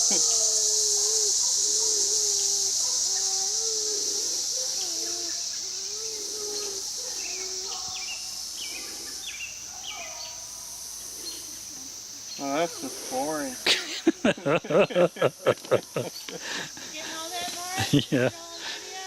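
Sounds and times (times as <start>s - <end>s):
distant voices: 0.0s - 19.0s
night insects chorus: 0.0s - 19.0s.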